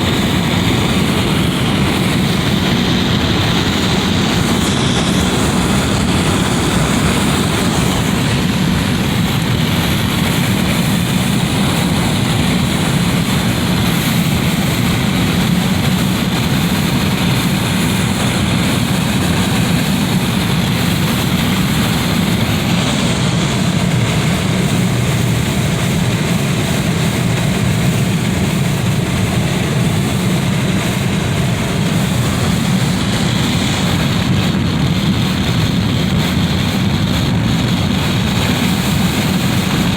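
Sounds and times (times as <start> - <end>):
wind blowing through window: 0.0 - 39.9.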